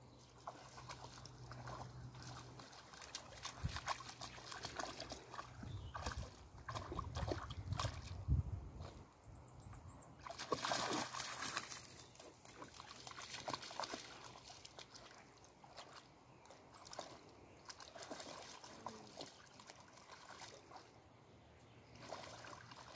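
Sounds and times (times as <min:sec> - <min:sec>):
dog splashing through water: 0:00.2 - 0:08.2, 0:10.2 - 0:21.0, 0:21.9 - 0:22.9.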